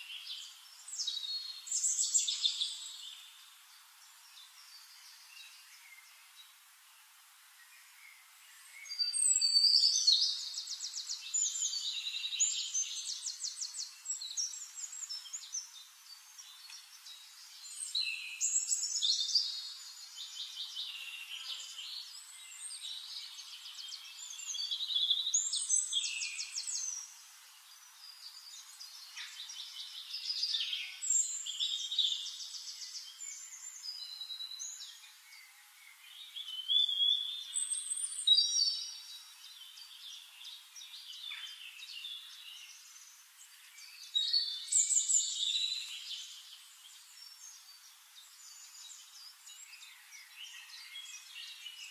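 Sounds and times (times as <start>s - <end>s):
songbird trills and whistles: 0.0s - 3.4s, 7.6s - 15.8s, 16.4s - 27.2s, 28.0s - 51.9s.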